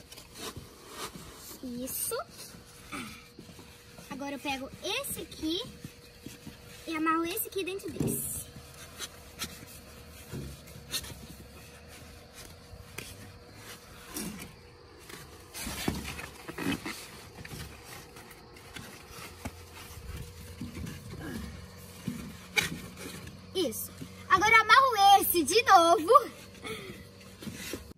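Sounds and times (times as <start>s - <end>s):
foam noodles squeaking and rubbing: 0.0s - 27.9s.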